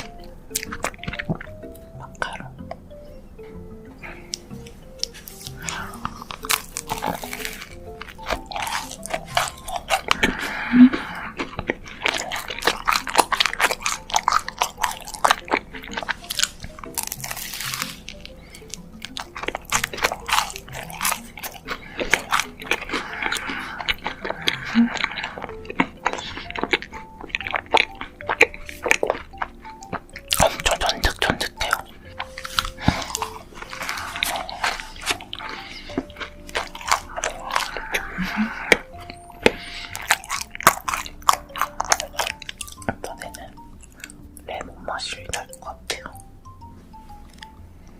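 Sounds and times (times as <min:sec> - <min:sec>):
food crunching and chewing: 0:00.0 - 0:47.9.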